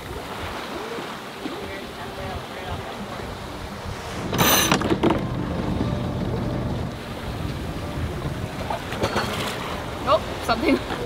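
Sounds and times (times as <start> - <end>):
wind and sea rushing: 0.0 - 11.0
wind buffeting microphone: 0.0 - 11.0.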